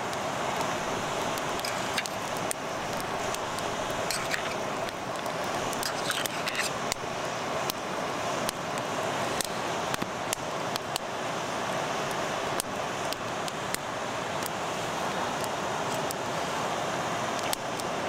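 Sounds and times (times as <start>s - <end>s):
campfire popping and crackling: 0.0s - 11.2s, 12.0s - 16.2s, 17.2s - 18.0s
river flowing: 0.0s - 18.0s.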